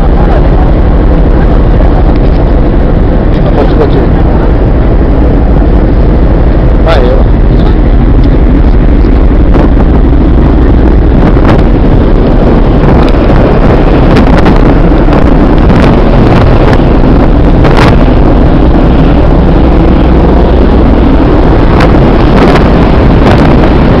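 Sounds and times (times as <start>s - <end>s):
low ship rumble: 0.0s - 24.0s
wind buffeting microphone: 0.0s - 24.0s.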